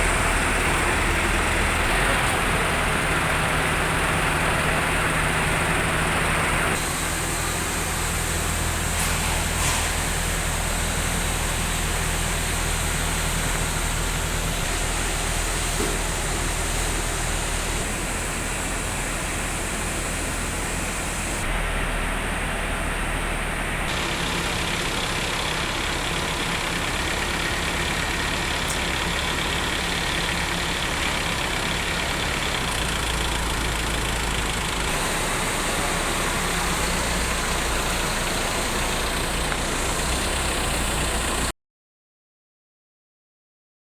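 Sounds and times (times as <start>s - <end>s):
truck engine idling: 0.0s - 41.5s.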